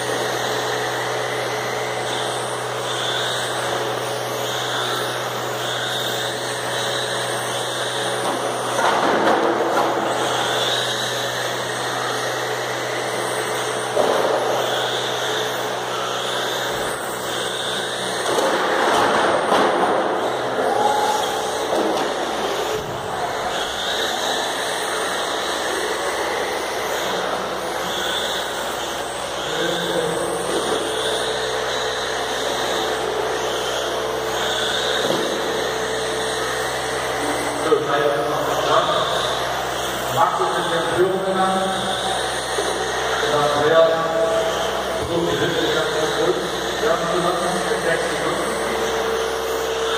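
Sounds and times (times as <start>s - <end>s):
radio-controlled cars motor hum: 0.0s - 49.9s.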